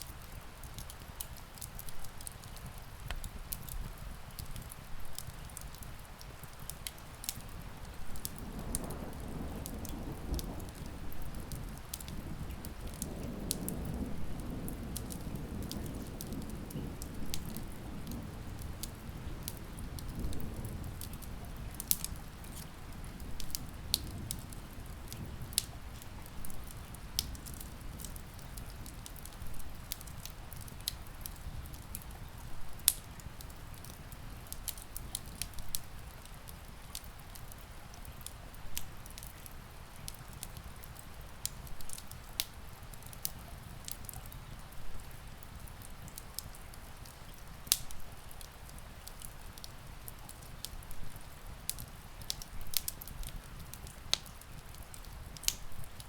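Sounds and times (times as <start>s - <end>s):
rain on a window: 0.0s - 56.0s
wood fire crackling and popping: 0.0s - 56.0s.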